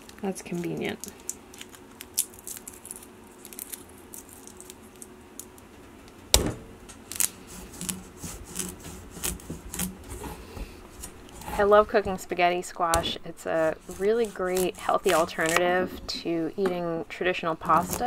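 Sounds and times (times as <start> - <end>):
garlic skins crackling: 0.0 - 5.7, 6.3 - 18.0.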